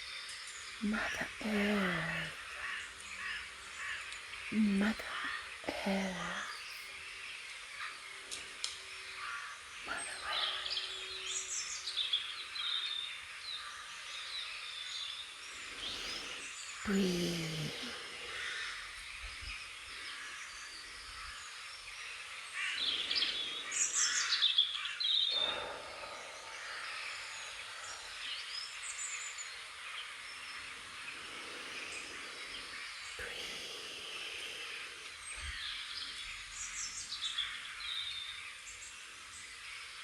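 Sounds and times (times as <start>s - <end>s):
songbirds singing: 0.0s - 40.0s
steady background hiss: 0.0s - 40.0s.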